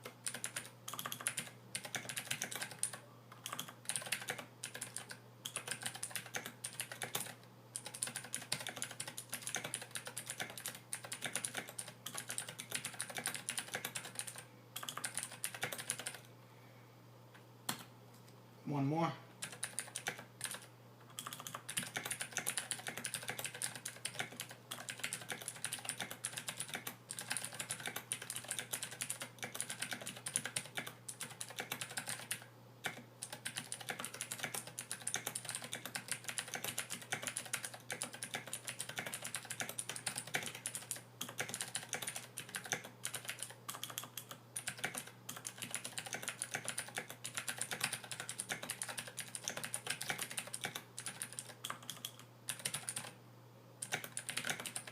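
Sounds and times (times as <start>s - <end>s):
fast typing on mechanical keyboard: 0.0s - 16.2s, 19.4s - 53.2s, 53.8s - 54.9s
faint steady hum: 0.0s - 54.9s.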